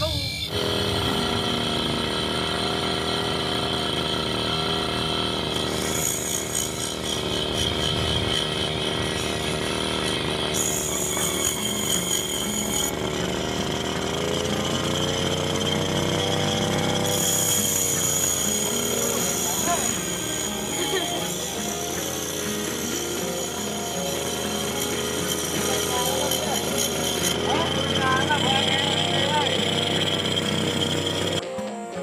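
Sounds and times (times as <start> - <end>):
high-pitched metal grinding: 0.0 - 31.4
small petrol engine running: 0.0 - 31.4.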